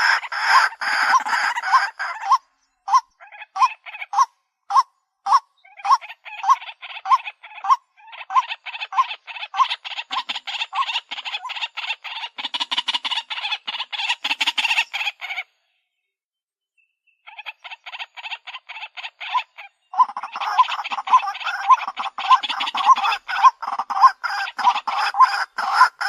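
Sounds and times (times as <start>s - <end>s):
waterhen calling: 0.0s - 15.5s, 17.3s - 26.0s.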